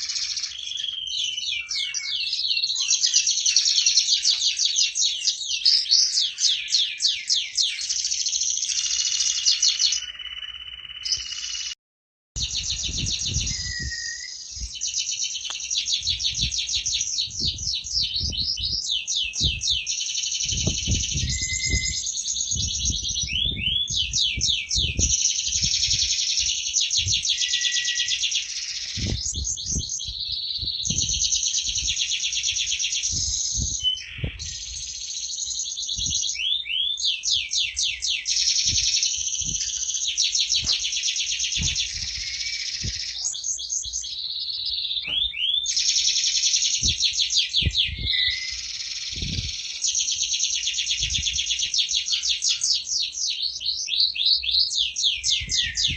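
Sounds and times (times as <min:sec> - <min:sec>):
canary singing trills: 0:00.0 - 0:11.8, 0:12.4 - 0:55.9.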